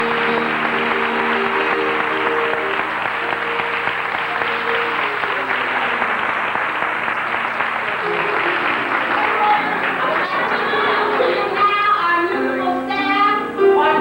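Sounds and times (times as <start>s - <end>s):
audience applauding: 0.0s - 12.4s
held musical chords: 0.0s - 14.0s.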